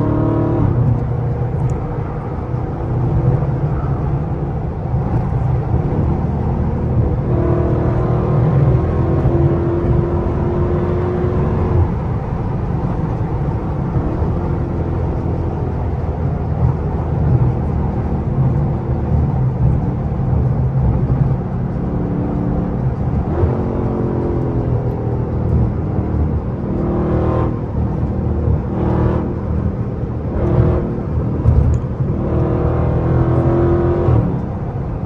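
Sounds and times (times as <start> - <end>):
car engine at speed: 0.0 - 35.0.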